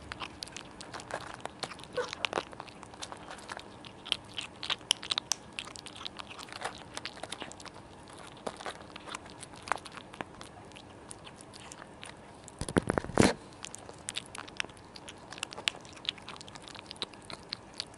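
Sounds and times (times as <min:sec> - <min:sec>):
kittens crunching kibble: 0:00.0 - 0:17.9.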